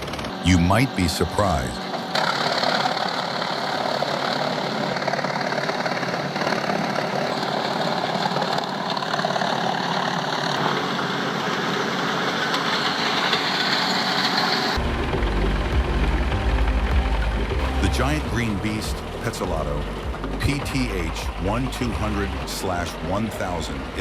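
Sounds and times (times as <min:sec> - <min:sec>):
deep rumbling machine: 0:00.0 - 0:24.0
wood chipper chipping wood: 0:00.0 - 0:24.0.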